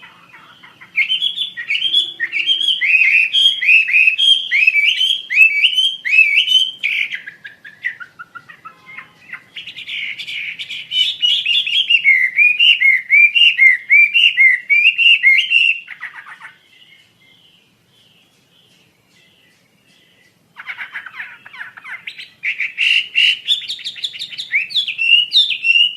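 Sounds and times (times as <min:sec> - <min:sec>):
songbird whistling song: 0:00.0 - 0:25.9.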